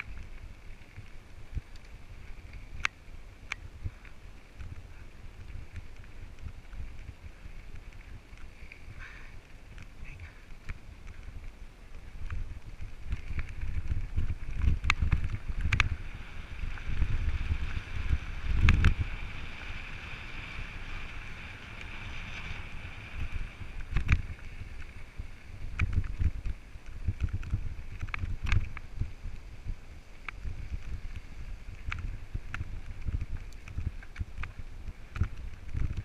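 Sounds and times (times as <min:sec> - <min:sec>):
rumble of bike tyres and frame: 0:00.0 - 0:36.0
wind buffeting microphone: 0:00.0 - 0:36.0.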